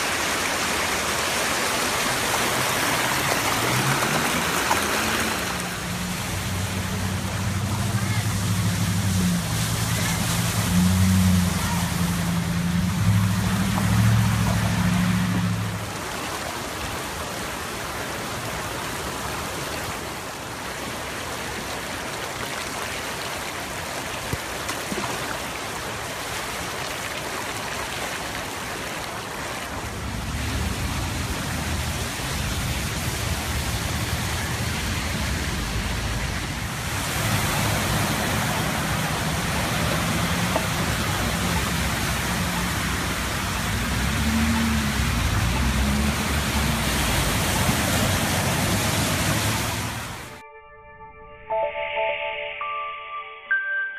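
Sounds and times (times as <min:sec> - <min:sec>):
floodwater rushing: 0:00.0 - 0:50.4.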